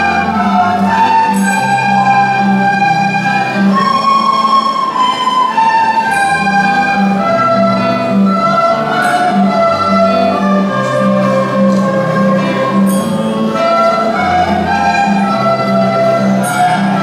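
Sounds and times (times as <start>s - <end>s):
recorder ensemble playing: 0.0s - 17.0s.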